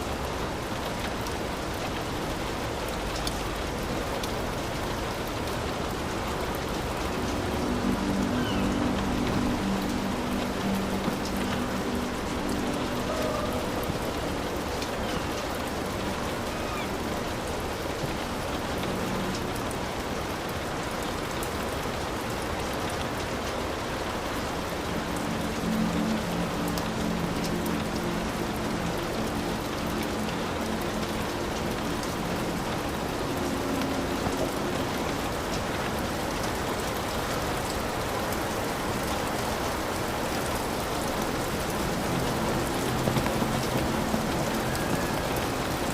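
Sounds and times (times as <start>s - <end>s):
heavy rain on a roof: 0.0s - 45.9s.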